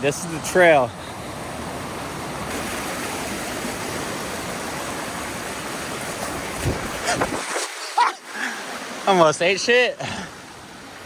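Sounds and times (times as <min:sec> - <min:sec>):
fast-flowing water rushing: 0:00.0 - 0:11.0.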